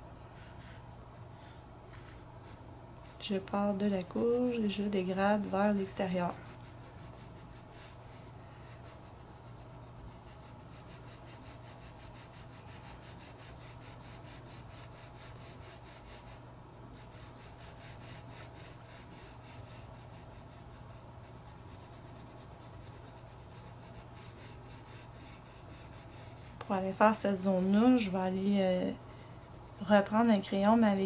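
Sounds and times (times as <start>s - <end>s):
steady low hum: 0.0s - 31.0s
pencil rubbing on paper: 0.1s - 31.0s.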